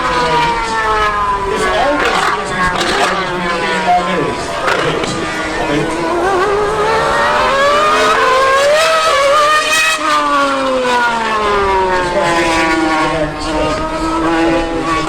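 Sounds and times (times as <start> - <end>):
racing engine revving: 0.0 - 15.0
second engine: 0.0 - 15.0.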